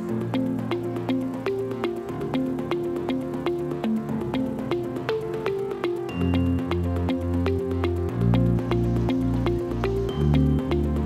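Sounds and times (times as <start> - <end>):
upbeat background music: 0.0 - 11.0.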